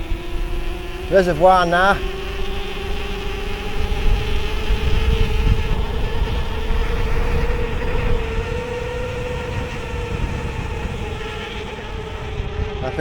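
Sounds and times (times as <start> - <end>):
electric motor whining: 0.0 - 13.0
wind rumble on microphone: 0.0 - 13.0.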